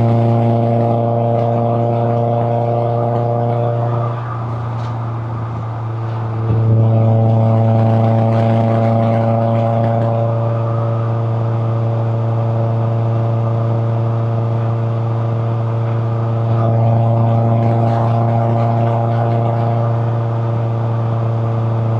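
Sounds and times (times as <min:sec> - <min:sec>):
car engine running while driving: 0:00.0 - 0:21.9.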